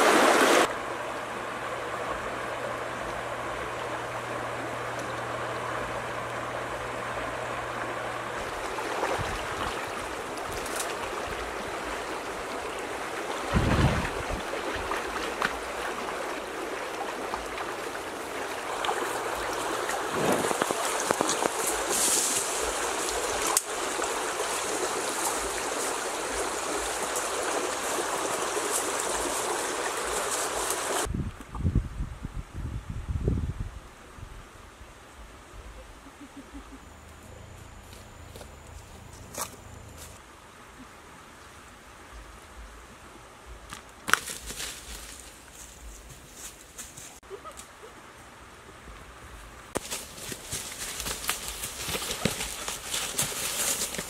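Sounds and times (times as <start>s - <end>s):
stream water running: 0.0s - 31.6s, 38.7s - 54.0s.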